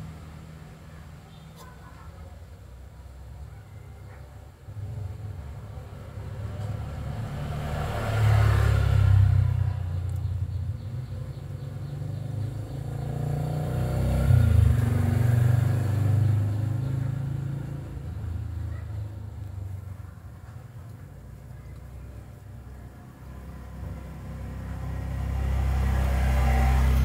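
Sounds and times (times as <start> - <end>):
passing motor vehicles: 0.0 - 27.0.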